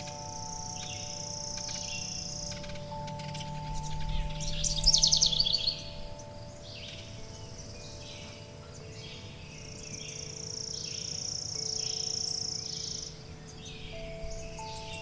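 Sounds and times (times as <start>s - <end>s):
birds chirping: 0.0s - 15.0s
wind chimes ringing: 0.0s - 15.0s.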